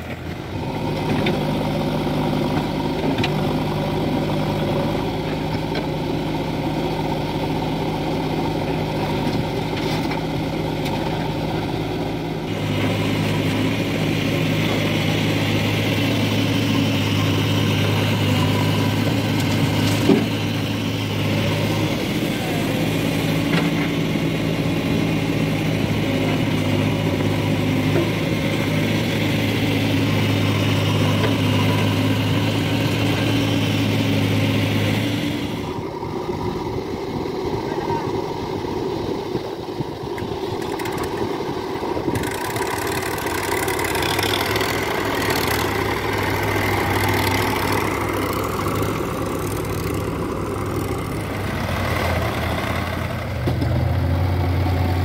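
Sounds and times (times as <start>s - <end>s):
backhoe loader diesel engine: 0.0s - 55.0s
tractor diesel engine running: 0.0s - 55.0s.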